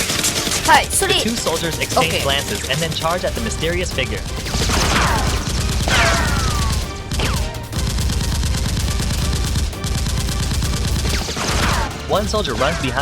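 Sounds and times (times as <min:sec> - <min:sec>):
rapid automatic gunfire: 0:00.0 - 0:13.0.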